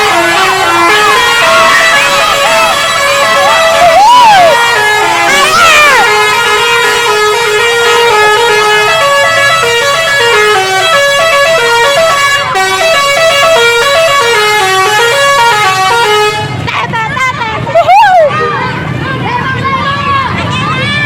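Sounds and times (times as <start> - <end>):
multi-tone bus horn melody: 0.0 - 19.0.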